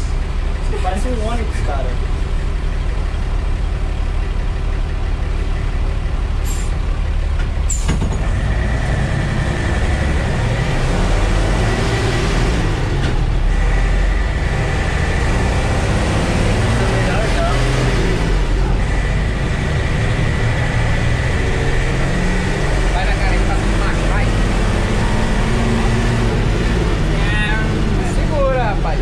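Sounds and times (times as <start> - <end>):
diesel bus engine rumble: 0.0 - 29.0.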